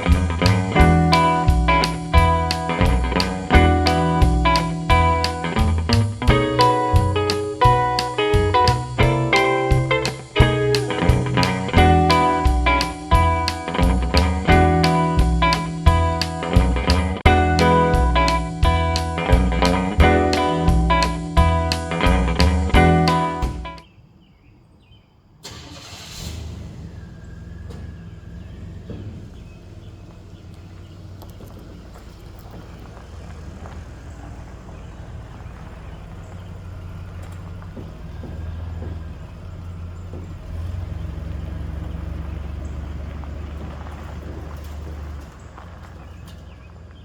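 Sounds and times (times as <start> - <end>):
truck engine running: 0.0 - 23.8, 25.4 - 47.0.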